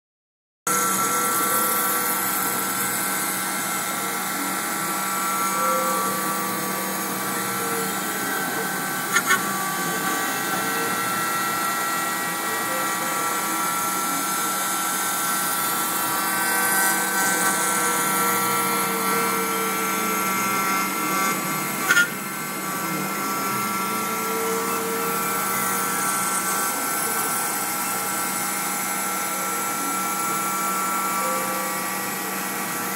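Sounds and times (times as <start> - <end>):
cnc router whine: 0.7 - 32.9.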